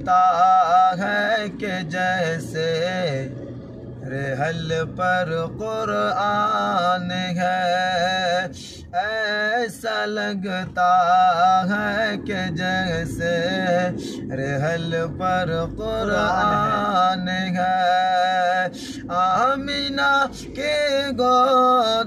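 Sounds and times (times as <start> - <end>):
man singing unaccompanied: 0.0 - 3.4, 4.0 - 22.0.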